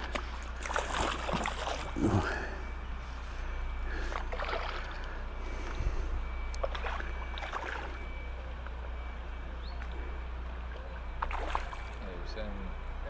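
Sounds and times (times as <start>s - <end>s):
water sloshing and splashing: 0.0s - 8.9s, 9.7s - 12.1s.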